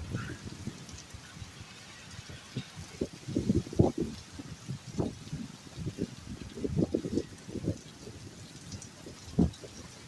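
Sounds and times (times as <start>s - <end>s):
faint rain pattering: 0.0s - 10.0s
wind buffeting microphone: 0.0s - 10.0s.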